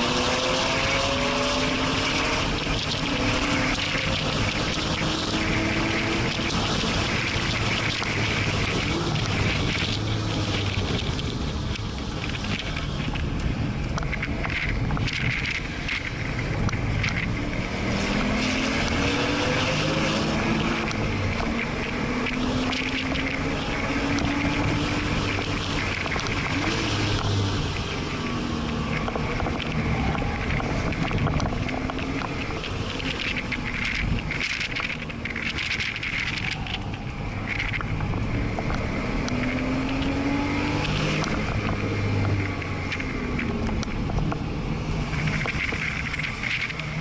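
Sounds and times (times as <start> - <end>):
car engine revving under load: 0.0 - 47.0
wind and road noise: 0.0 - 47.0.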